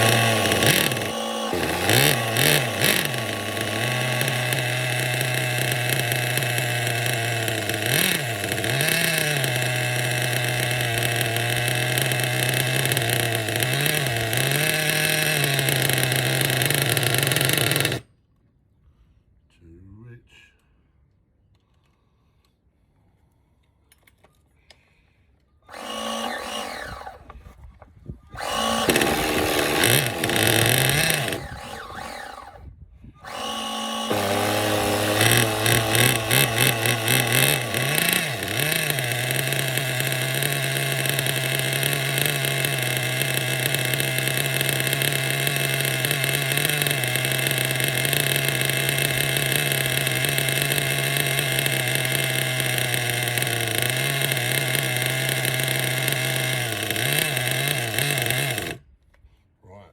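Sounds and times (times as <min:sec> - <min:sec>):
small nitro engine running: 0:00.0 - 0:18.0, 0:25.7 - 0:27.3, 0:28.4 - 0:32.6, 0:33.2 - 0:58.8
starter box cranking: 0:00.0 - 0:18.0, 0:25.7 - 0:27.3, 0:28.4 - 0:32.6, 0:33.2 - 0:58.8.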